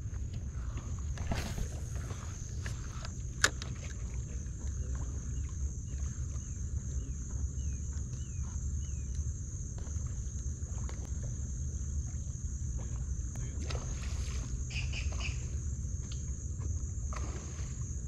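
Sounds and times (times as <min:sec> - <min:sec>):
high insect drone: 0:00.0 - 0:18.0
low steady rumble: 0:00.0 - 0:18.0.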